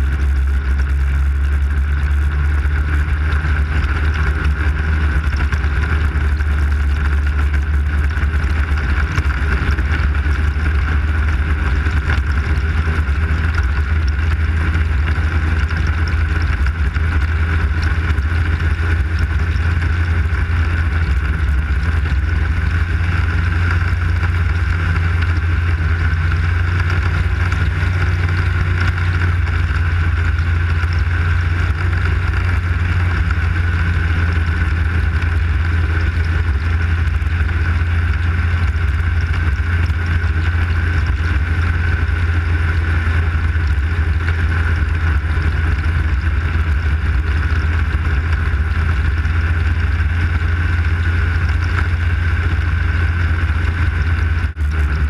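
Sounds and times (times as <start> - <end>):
snowmobile engine droning: 0.0 - 55.0.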